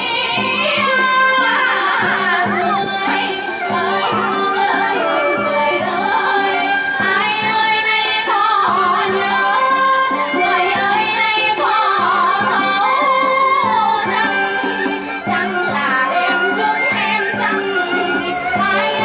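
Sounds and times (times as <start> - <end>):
traditional instruments playing: 0.0 - 19.0
women singing folk song: 0.0 - 19.0.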